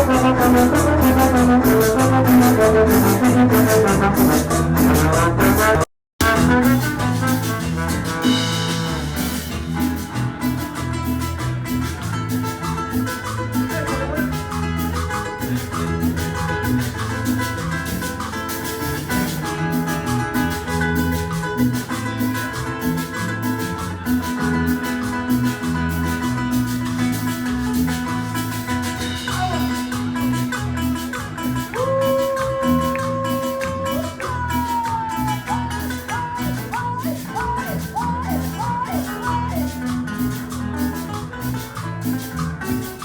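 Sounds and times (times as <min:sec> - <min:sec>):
music with steady beat: 0:00.0 - 0:43.0.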